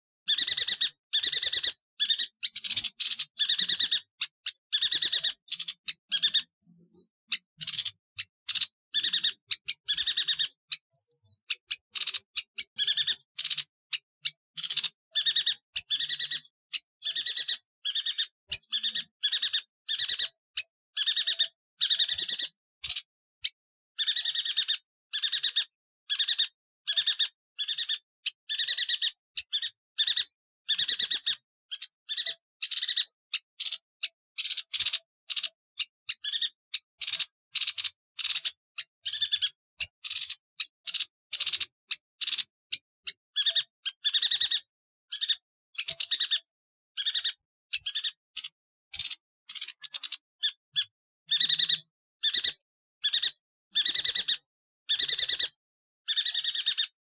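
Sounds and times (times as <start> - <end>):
bird high chirps: 0.2 - 57.0.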